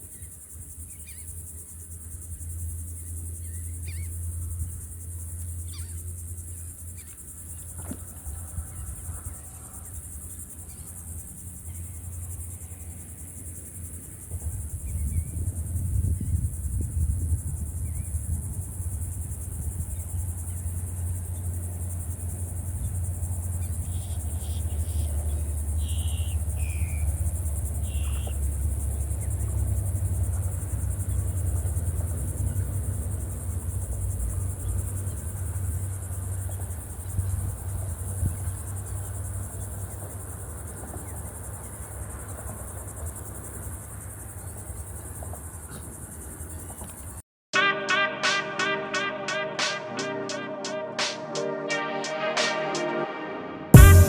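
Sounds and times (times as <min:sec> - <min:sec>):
insects chirring: 0:00.0 - 0:47.2.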